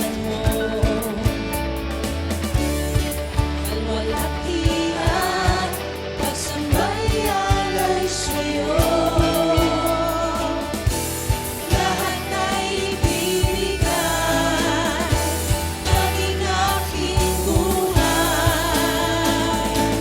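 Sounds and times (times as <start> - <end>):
band playing with bass: 0.0 - 20.0
voices singing: 3.7 - 20.0.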